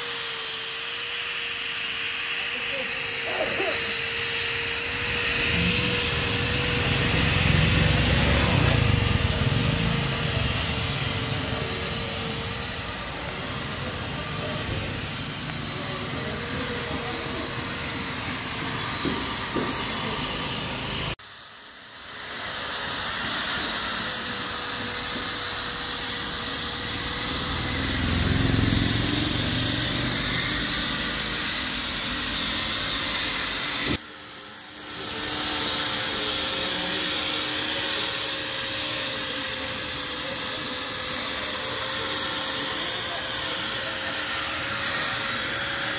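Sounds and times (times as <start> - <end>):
angle grinder sanding wood: 0.0 - 45.9.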